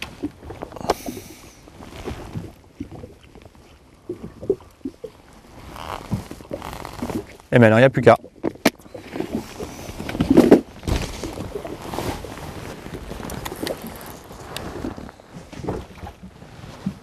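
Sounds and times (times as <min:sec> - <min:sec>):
wind and water rushing: 0:00.0 - 0:17.0.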